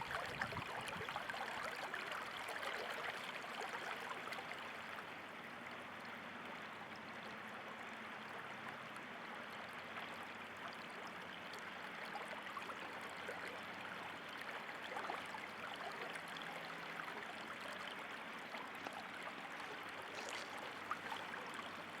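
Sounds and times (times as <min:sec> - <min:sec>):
stream water rushing and trickling: 0:00.0 - 0:22.0.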